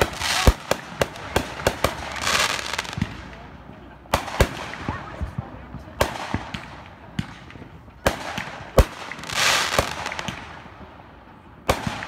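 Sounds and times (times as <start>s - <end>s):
fireworks bangs: 0.0s - 10.8s.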